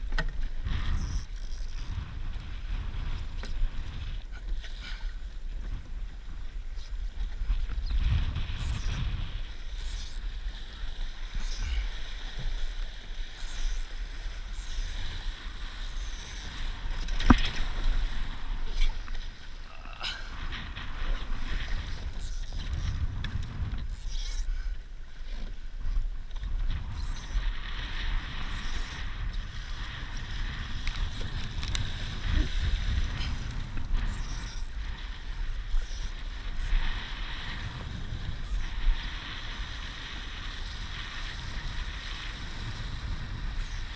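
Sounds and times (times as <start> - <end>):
water splashing along hull: 0.0 - 43.9
wind noise on microphone: 0.0 - 43.9.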